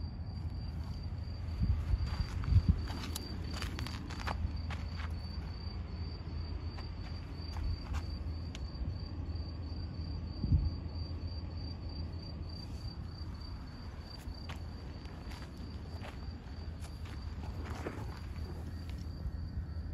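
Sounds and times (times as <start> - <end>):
insect chirping: 0.0 - 19.9
wind rumble: 0.0 - 19.9.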